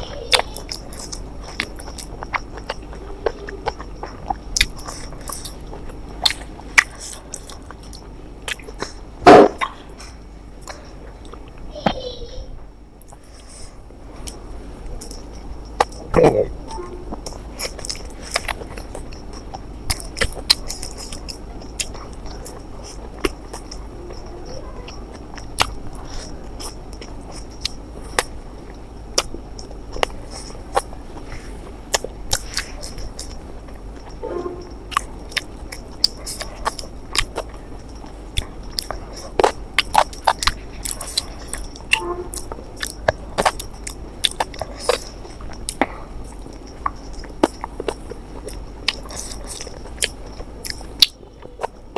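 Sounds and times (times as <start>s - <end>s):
mouth clicks and smacks: 0.0s - 12.0s, 13.0s - 51.9s
faint high-pitched hum: 0.0s - 51.9s
person chewing and biting: 0.3s - 11.7s, 13.0s - 51.9s.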